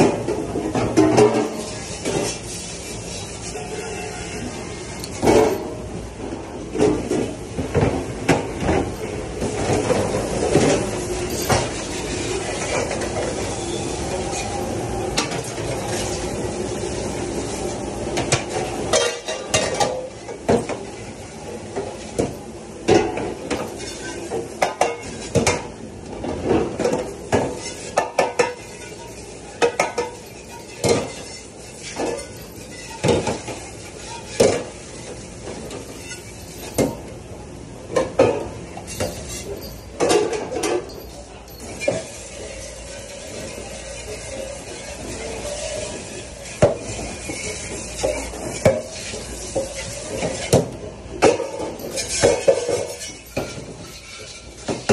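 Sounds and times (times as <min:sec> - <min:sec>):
metal pans clanking: 0:00.0 - 0:02.4, 0:05.0 - 0:05.8, 0:06.8 - 0:13.4, 0:18.2 - 0:37.1, 0:37.9 - 0:54.9.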